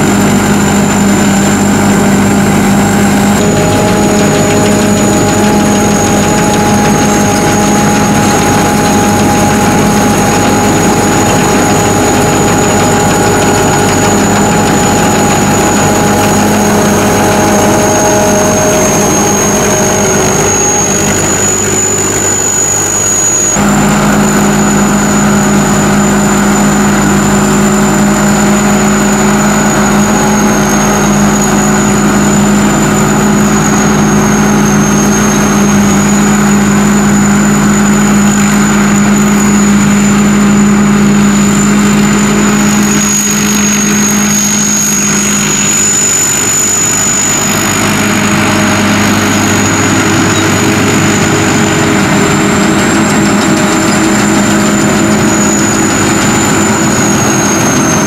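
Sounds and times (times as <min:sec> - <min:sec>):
combine harvester engine hum: 0:00.0 - 0:58.0
high-pitched machinery whine: 0:00.0 - 0:58.0.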